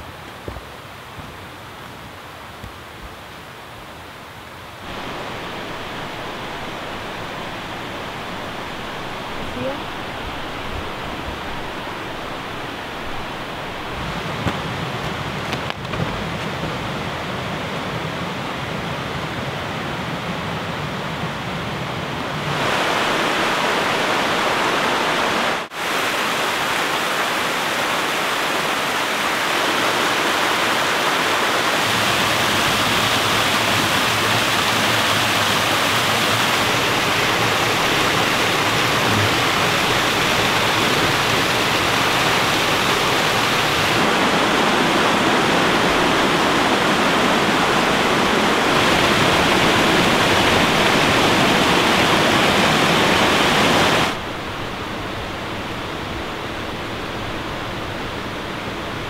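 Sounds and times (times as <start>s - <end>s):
water rushing over rocks: 0.0s - 18.7s, 22.4s - 59.0s.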